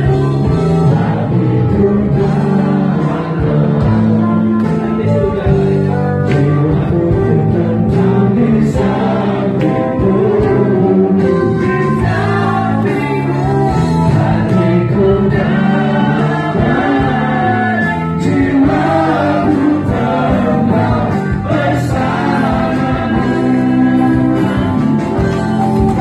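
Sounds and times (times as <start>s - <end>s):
choir singing: 0.8s - 4.5s, 7.5s - 25.1s.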